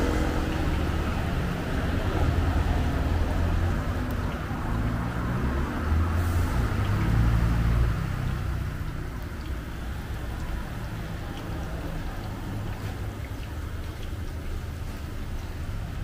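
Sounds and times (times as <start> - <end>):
oil deep-frying hiss: 0.0 - 16.0.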